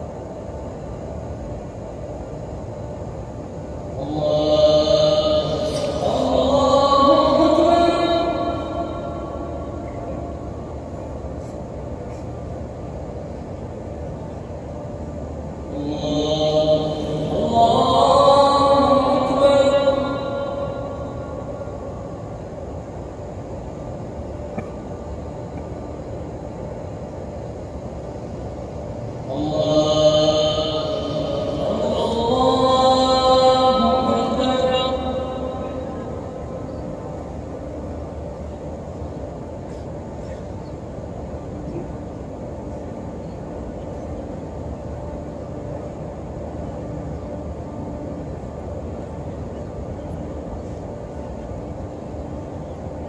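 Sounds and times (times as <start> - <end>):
murmur of a vast crowd: 0.0 - 53.0
outdoor ambient rumble and hiss: 0.0 - 53.0.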